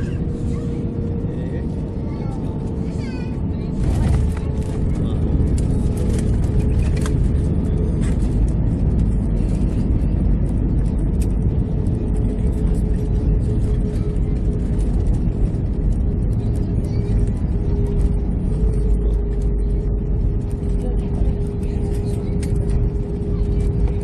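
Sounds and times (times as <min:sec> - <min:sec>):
aircraft engines and wheels rumbling: 0:00.0 - 0:24.0.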